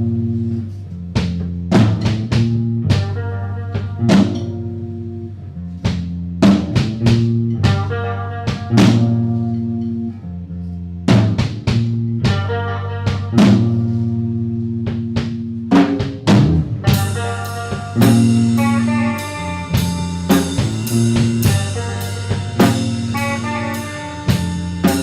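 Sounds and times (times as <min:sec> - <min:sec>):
drums with cymbals: 0:00.0 - 0:10.1, 0:11.1 - 0:25.0
rock band music: 0:00.0 - 0:25.0.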